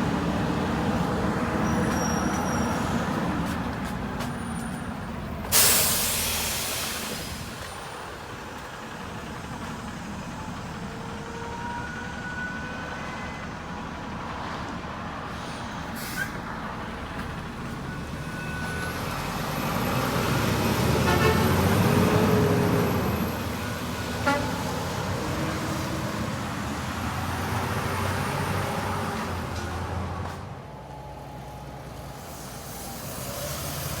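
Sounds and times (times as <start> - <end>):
heavy truck driving past: 0.0 - 34.0.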